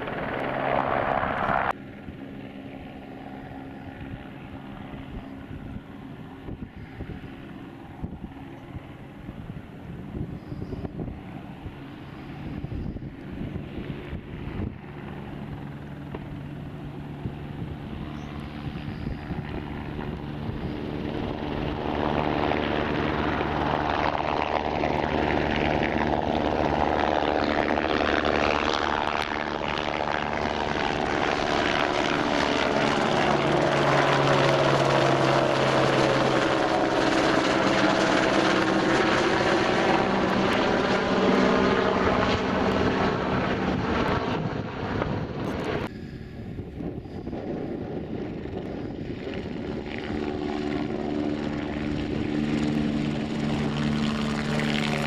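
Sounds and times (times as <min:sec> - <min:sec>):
helicopter flying overhead: 0:00.0 - 0:55.0.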